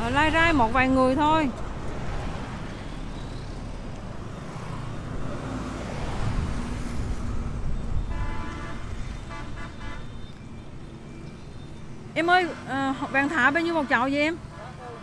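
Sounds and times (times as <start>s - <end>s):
highway traffic passing: 0.0s - 15.0s
motorbikes passing: 0.0s - 15.0s.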